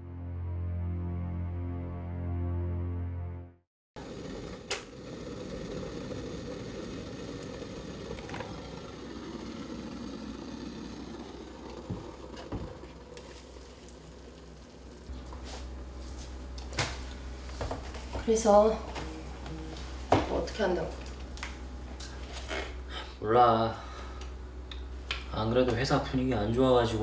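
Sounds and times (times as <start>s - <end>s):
electric kettle rumbling hiss: 4.0s - 27.0s
low hum: 4.0s - 27.0s.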